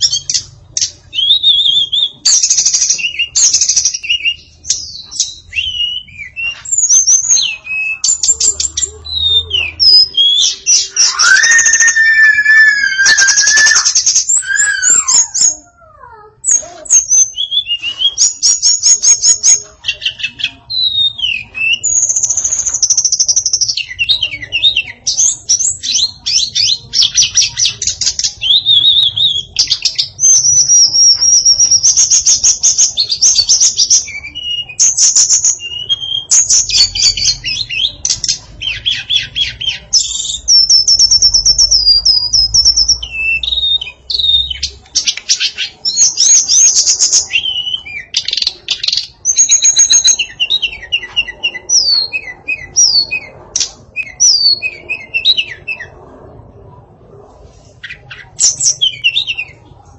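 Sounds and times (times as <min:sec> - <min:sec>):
bird singing chirps and trills: 0:00.0 - 0:56.0, 0:57.8 - 0:59.9.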